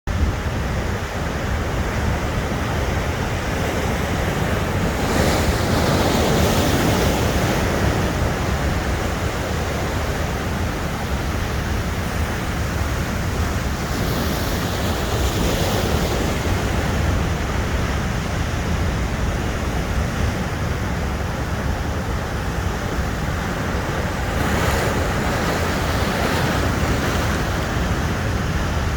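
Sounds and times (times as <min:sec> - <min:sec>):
ocean waves breaking: 0:00.1 - 0:28.9
wind rumble on microphone: 0:00.1 - 0:28.9.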